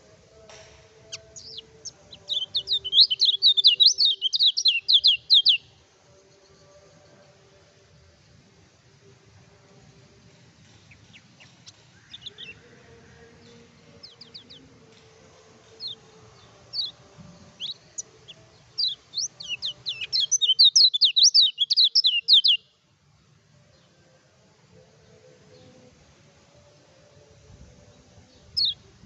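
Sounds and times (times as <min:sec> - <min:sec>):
songbird chirping: 0:00.0 - 0:29.0.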